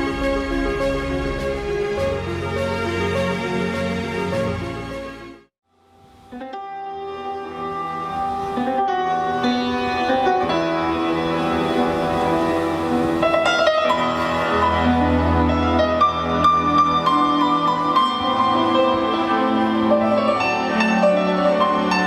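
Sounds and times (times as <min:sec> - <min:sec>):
piano background music: 0:00.0 - 0:22.0.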